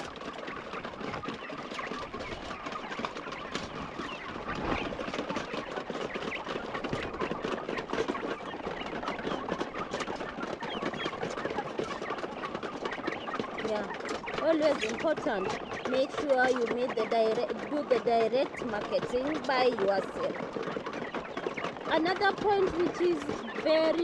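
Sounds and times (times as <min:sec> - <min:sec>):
chickens clucking and cheeping: 0:00.0 - 0:24.0.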